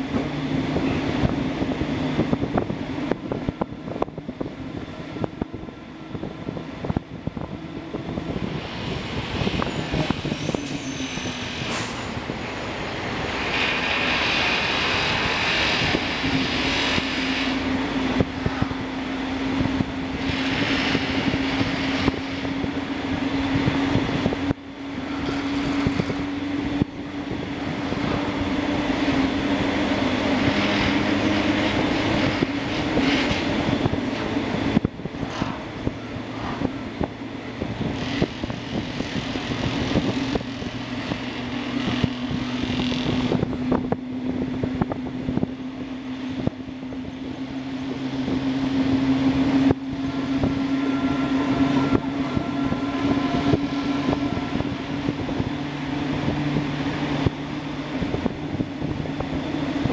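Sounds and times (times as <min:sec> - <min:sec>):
train wheel-on-rail noise: 0:00.0 - 0:59.9.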